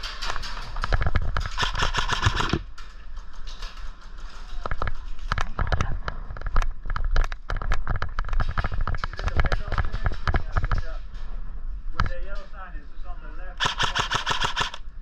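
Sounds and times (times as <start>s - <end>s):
sharp clicks and knocks: 0.0s - 12.5s, 13.6s - 14.9s.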